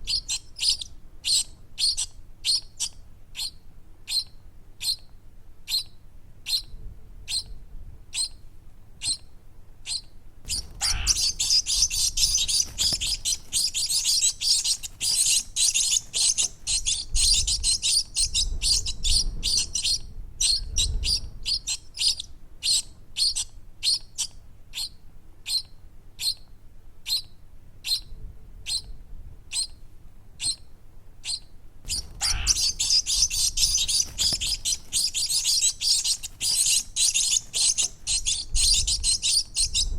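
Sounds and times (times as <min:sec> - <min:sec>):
baby birds chirping: 0:00.0 - 0:05.0, 0:05.7 - 0:06.7, 0:07.3 - 0:07.5, 0:08.2 - 0:08.4, 0:09.0 - 0:09.2, 0:09.9 - 0:26.4, 0:27.0 - 0:28.0, 0:30.4 - 0:30.6, 0:31.2 - 0:39.9.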